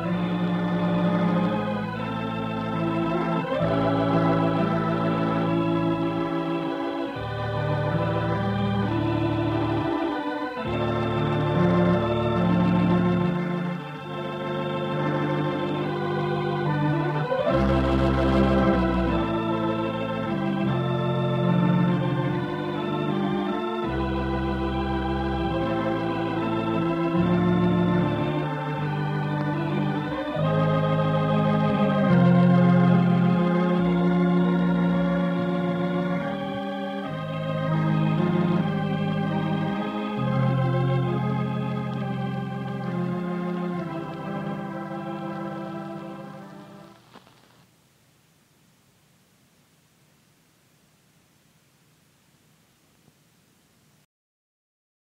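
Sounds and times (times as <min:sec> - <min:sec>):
organ playing chords: 0:00.0 - 0:47.6.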